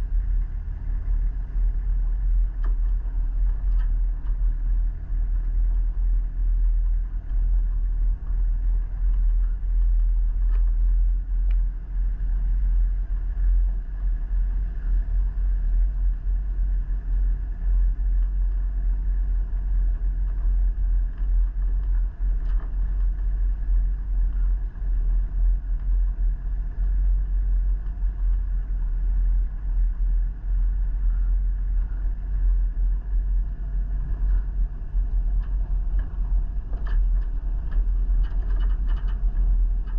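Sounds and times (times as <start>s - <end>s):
vehicle road and wind rumble: 0.0s - 39.9s.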